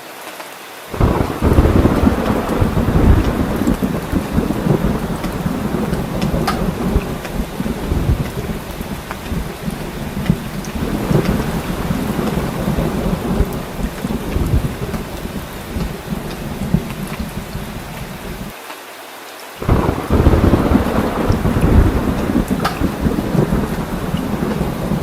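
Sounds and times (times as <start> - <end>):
heavy rain falling: 0.0 - 25.0
rolling thunder rumble: 0.9 - 18.5, 19.6 - 25.0.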